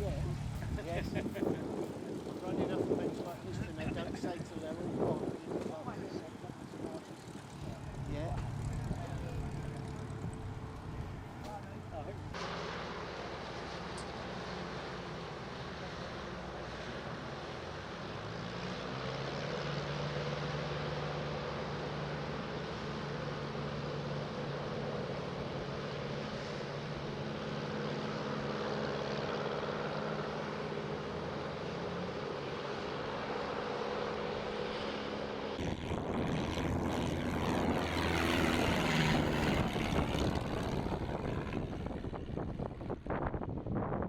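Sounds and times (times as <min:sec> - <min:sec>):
propeller aircraft engine running: 0:00.0 - 0:44.0.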